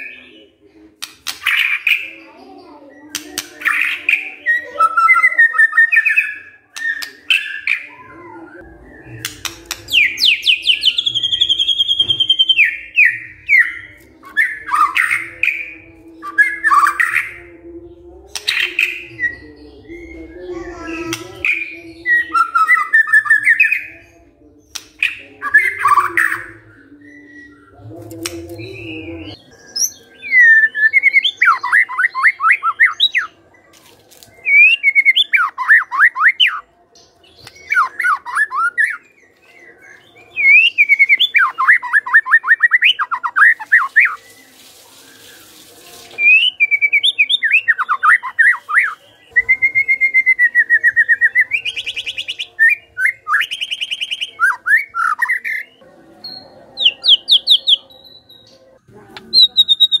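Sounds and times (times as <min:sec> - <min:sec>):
songbird singing: 0:00.0 - 1:00.0.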